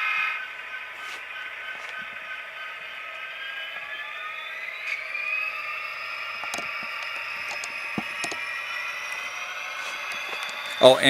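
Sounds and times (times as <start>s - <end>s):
diesel engine sound from small speaker: 0.0s - 11.0s.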